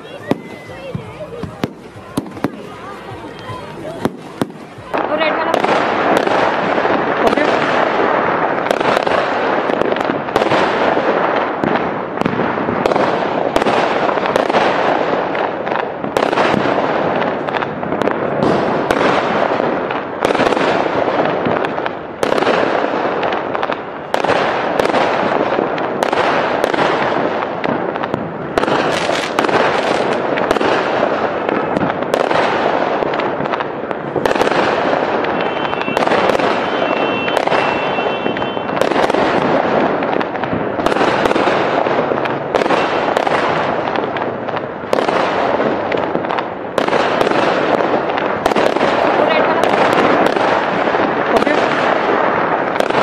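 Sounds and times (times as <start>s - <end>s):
fireworks crackle: 0.0s - 53.0s.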